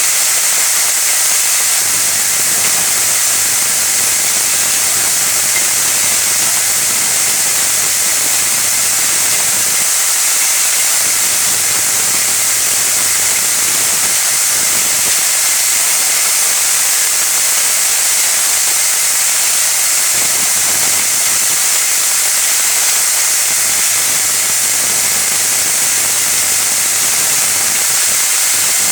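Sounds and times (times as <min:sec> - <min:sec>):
steady hiss: 0:00.0 - 0:28.9.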